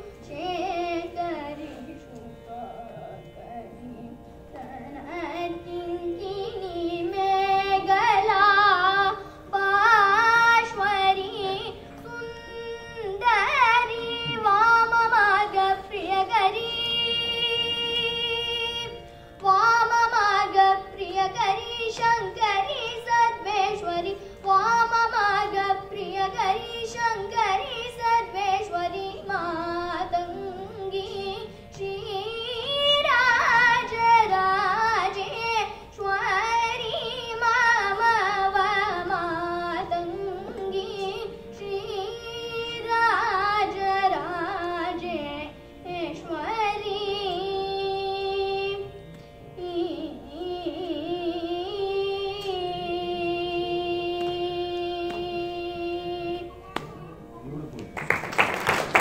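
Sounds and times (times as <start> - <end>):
girl singing: 0.0 - 49.0, 49.6 - 57.3.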